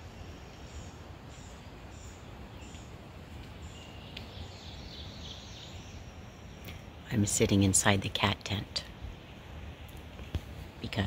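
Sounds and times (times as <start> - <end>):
songbirds chirping: 0.0 - 11.0
steady outdoor hiss: 0.0 - 11.0.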